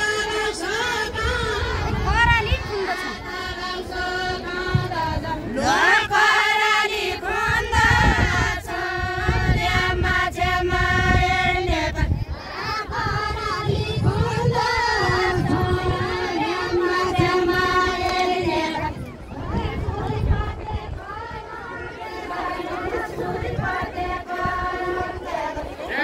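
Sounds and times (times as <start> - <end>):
women singing folk song: 0.0 - 26.0.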